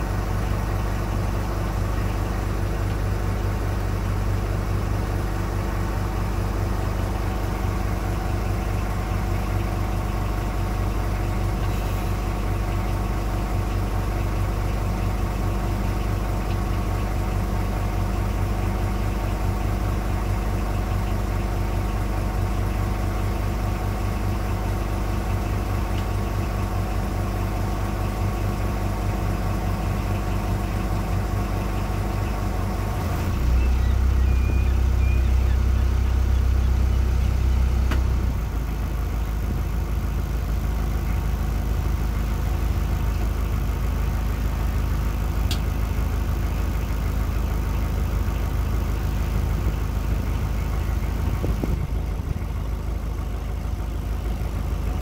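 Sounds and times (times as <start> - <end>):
boat motor idling: 0.0 - 55.0.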